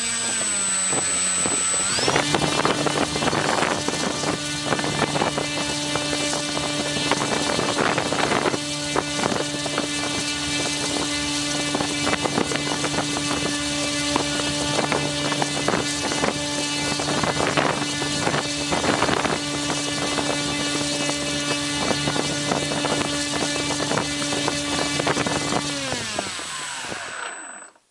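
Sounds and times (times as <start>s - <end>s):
propeller air rush: 0.0s - 27.2s
electric motor whine: 0.0s - 27.9s.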